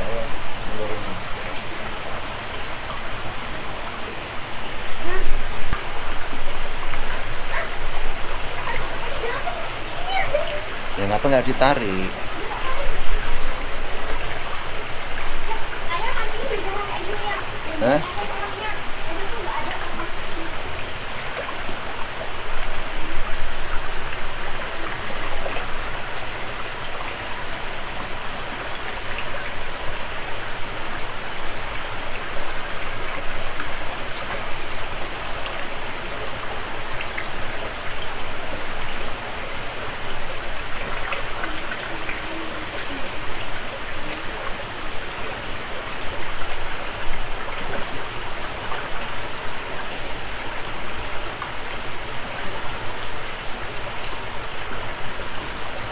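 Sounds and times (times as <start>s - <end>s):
creek water rushing: 0.0s - 55.9s.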